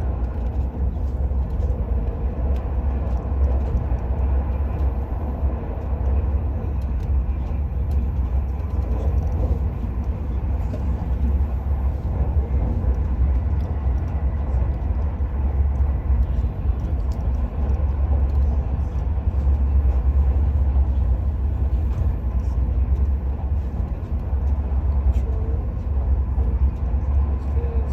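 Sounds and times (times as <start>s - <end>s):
train rumble from inside carriage: 0.0s - 27.9s.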